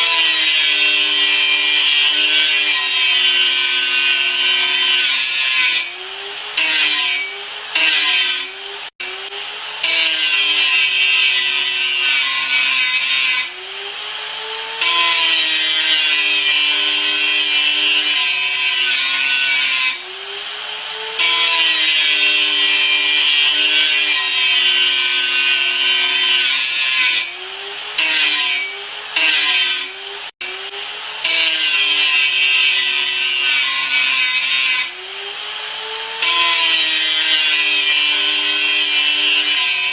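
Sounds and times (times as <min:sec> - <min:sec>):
angle grinder grinding: 0:00.0 - 0:39.9.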